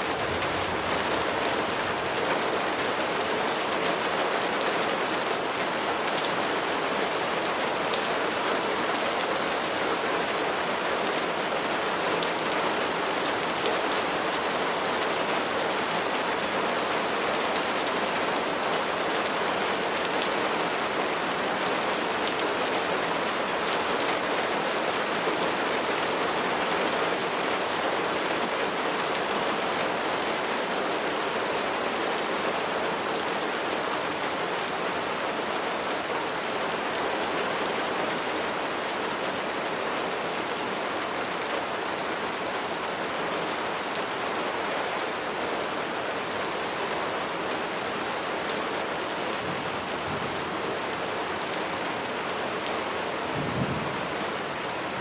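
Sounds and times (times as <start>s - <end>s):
heavy rain on a hard surface: 0.0s - 55.0s.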